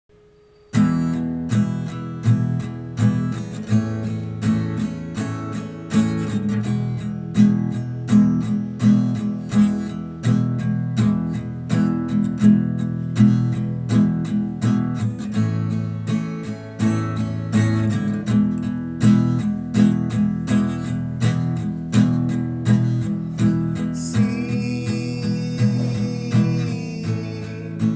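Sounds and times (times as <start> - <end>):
acoustic guitar strumming: 0.1 - 27.9.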